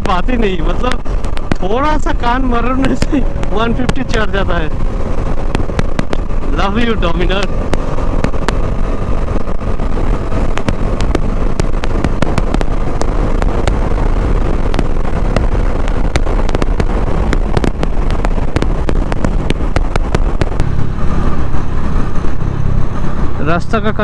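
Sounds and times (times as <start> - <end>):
sharp clicks and knocks: 0.0 - 22.4
motorcycle engine rumble: 0.0 - 24.0.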